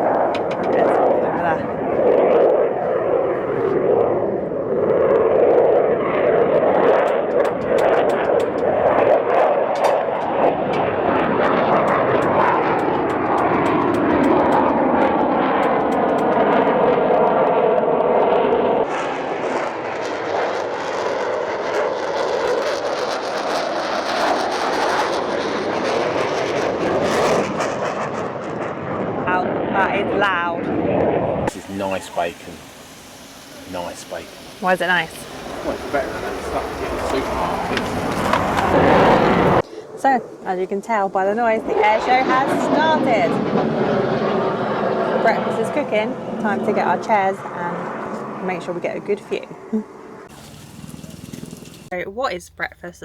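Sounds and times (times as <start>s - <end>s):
aircraft flying over: 0.0s - 51.9s.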